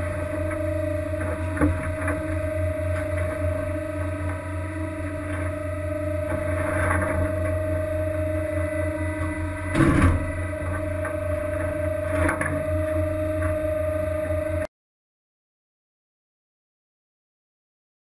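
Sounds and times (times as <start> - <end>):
low mechanical hum: 0.0 - 14.7.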